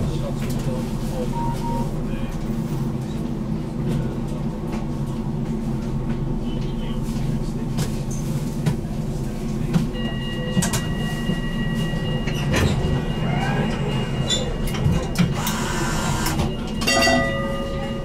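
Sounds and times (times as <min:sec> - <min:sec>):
tram rumble: 0:00.0 - 0:18.0.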